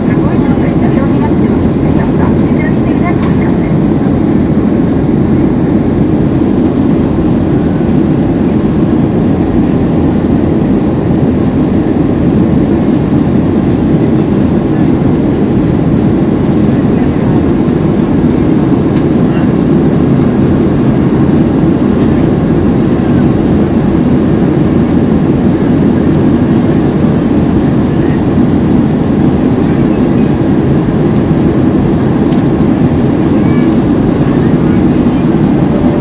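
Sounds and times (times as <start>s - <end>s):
airplane cabin noise: 0.0s - 36.0s.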